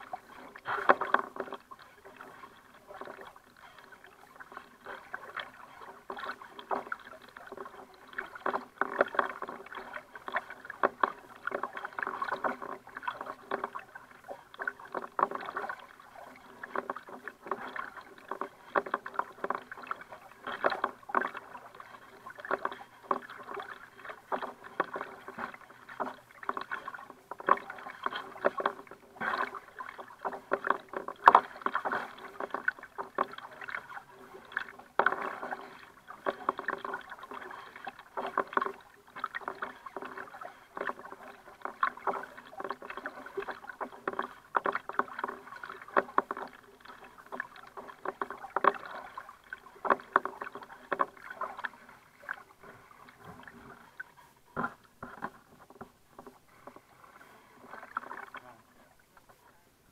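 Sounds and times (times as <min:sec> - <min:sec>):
water slapping against kayak hull: 0:00.0 - 0:59.4.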